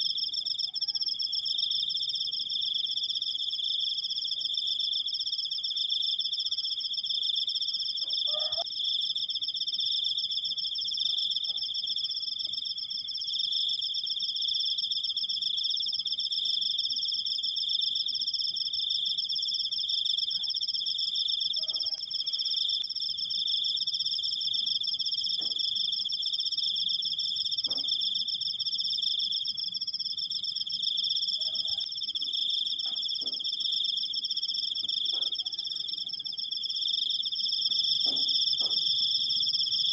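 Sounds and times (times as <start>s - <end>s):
cricket trilling: 0.0s - 39.9s.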